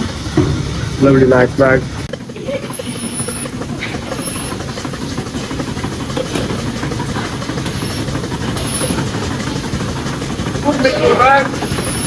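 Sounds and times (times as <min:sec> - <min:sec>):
milking machinery running: 0:00.0 - 0:12.0.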